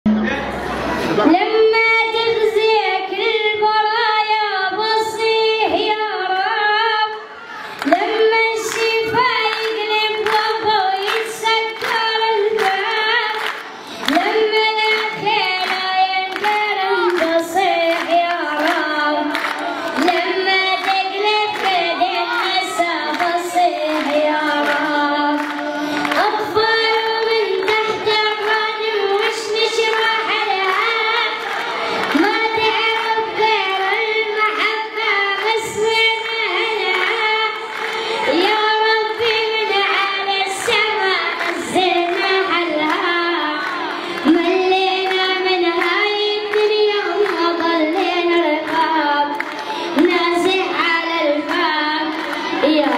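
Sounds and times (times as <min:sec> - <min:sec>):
boy singing into a microphone: 0:01.0 - 0:52.9.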